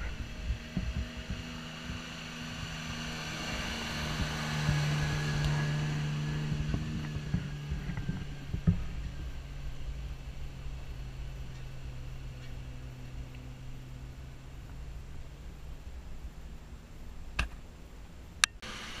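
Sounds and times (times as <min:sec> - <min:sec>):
truck engine driving past: 0:00.0 - 0:18.1.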